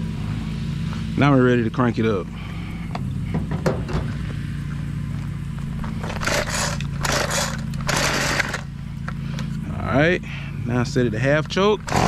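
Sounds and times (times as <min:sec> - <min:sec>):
recoil starter rasping whir: 0:00.0 - 0:12.0
steady low hum: 0:00.0 - 0:12.0.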